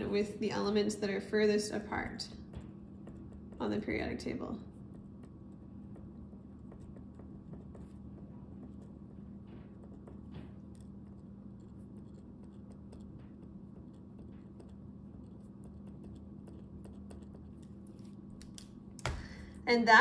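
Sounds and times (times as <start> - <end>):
steady low hum: 0.0 - 20.0
pen scratching on paper: 2.0 - 18.3.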